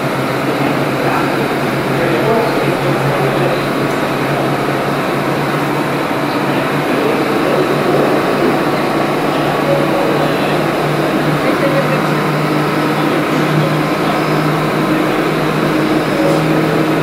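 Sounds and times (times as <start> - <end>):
constant low drone: 0.0 - 17.0
subway car air-conditioning hum: 0.0 - 17.0.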